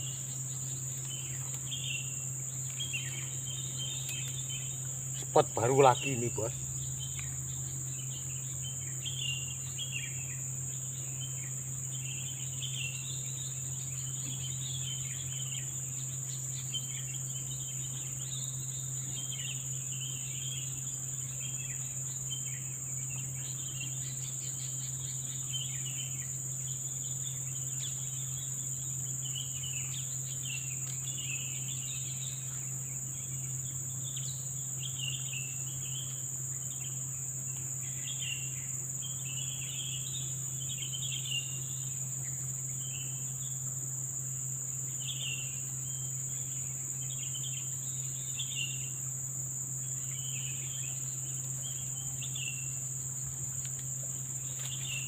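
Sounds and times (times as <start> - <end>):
chirps and warbling calls: 0.0 - 43.6, 49.8 - 55.0
forest insects droning: 0.0 - 55.0.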